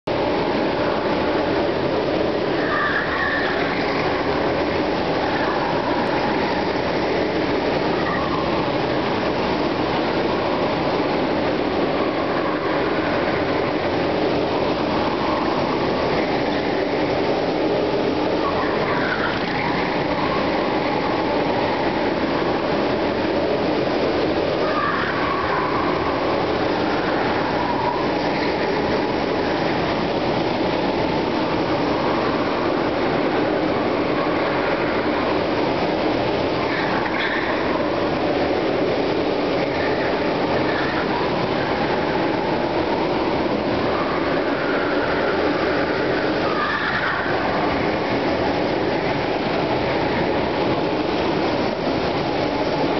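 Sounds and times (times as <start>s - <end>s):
go-kart engines racing: 0.2s - 52.9s.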